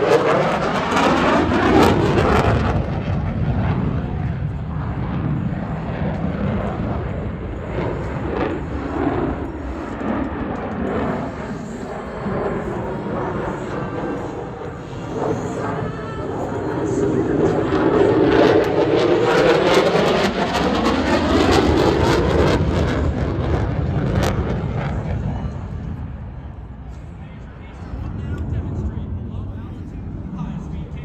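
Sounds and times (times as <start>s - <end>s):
jet engine roaring past: 0.0s - 31.0s.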